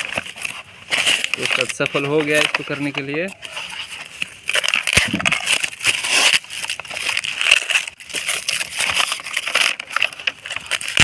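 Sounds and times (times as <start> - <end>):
packaging being torn open: 0.0 - 11.0.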